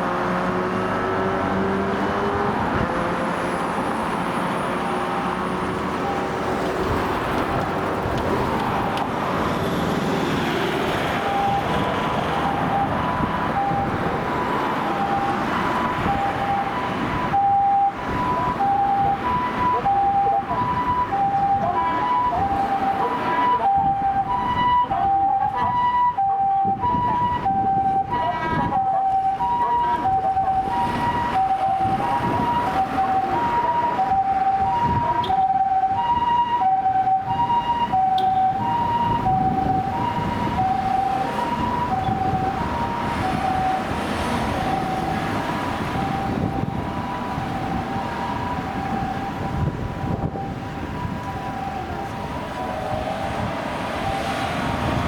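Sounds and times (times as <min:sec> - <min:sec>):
passing road traffic: 0:00.0 - 0:55.0
two-tone ambulance siren: 0:00.0 - 0:55.0.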